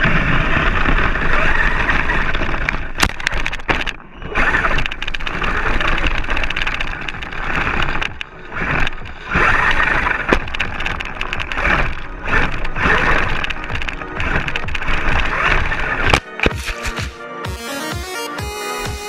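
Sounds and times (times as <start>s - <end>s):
rc car drivetrain noise: 0.0s - 16.9s
tyres running through grass: 0.0s - 17.2s.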